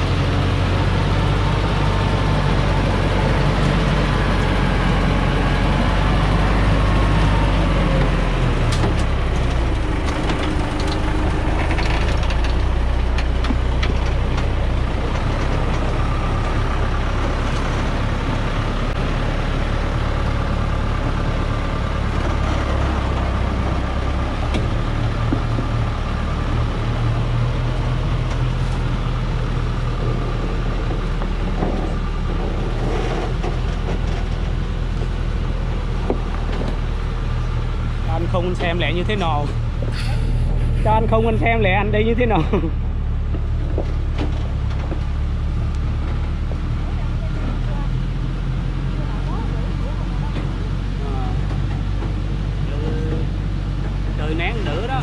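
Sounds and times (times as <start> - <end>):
truck diesel engine under load: 0.0 - 55.0.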